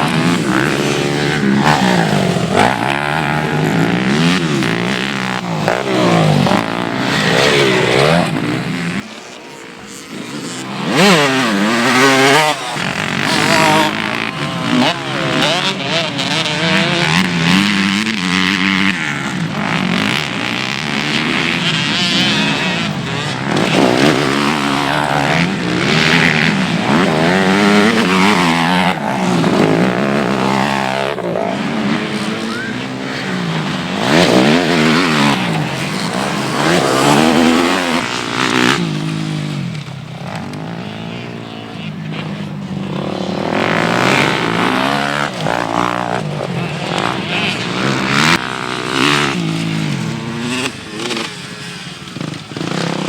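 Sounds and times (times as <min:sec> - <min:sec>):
motocross bikes revving and passing: 0:00.0 - 0:53.0.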